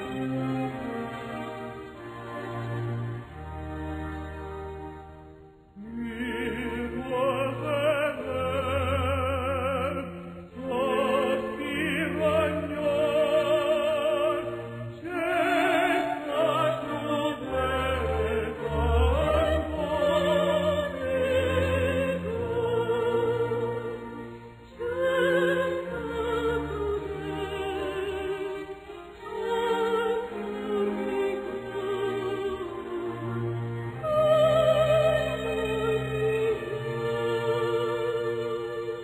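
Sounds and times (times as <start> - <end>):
orchestral accompaniment: 0.0 - 39.0
operatic singing with vibrato: 5.6 - 39.0.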